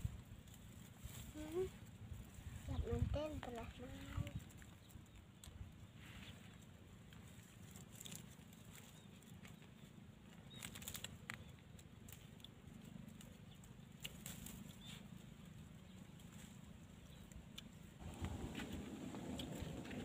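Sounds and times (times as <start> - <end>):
leaves rustling and clicking: 0.0 - 20.0
low steady rumble: 0.0 - 20.0.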